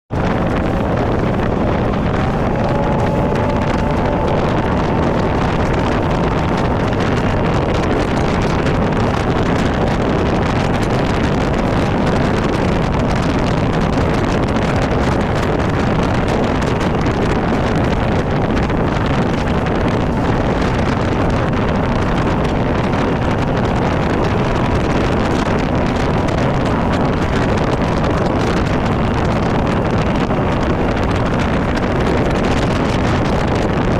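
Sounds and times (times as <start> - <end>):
boat hull on water: 0.1 - 33.9
outboard motor running: 0.1 - 33.9
wind buffeting microphone: 0.1 - 33.9.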